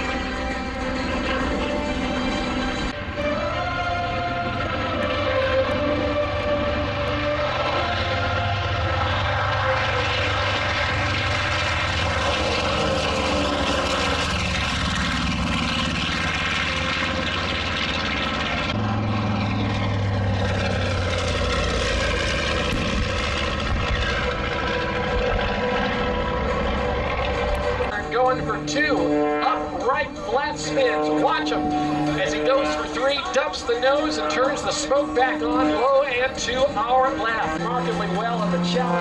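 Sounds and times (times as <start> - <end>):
propeller airplane engine: 0.0 - 39.0.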